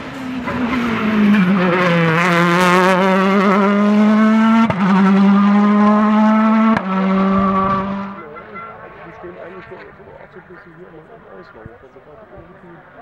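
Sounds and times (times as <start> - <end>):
rally car engine accelerating: 0.0 - 11.6.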